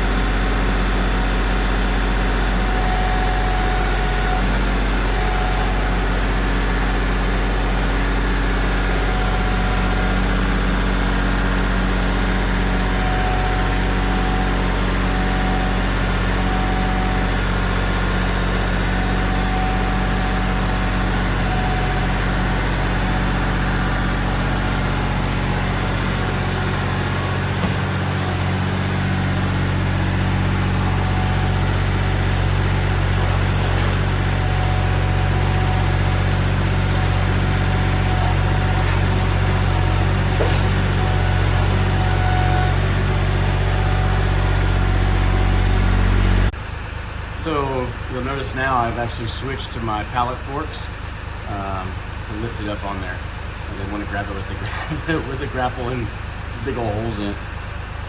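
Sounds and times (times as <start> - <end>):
loader engine running: 0.0 - 58.0.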